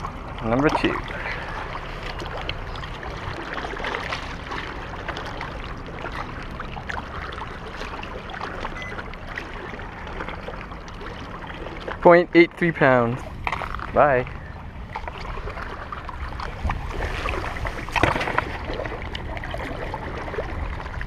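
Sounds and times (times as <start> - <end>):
water lapping against rocks: 0.0 - 21.0.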